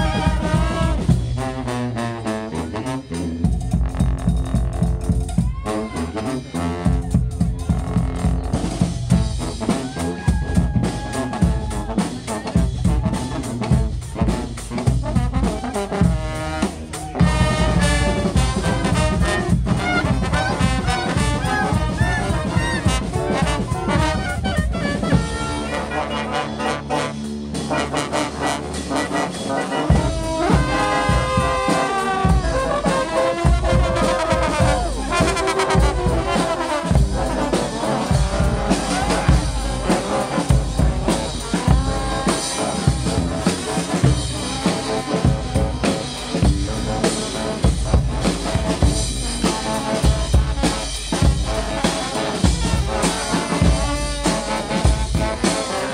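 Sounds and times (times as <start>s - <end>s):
brass band playing: 0.0s - 55.9s
drums: 0.0s - 55.9s.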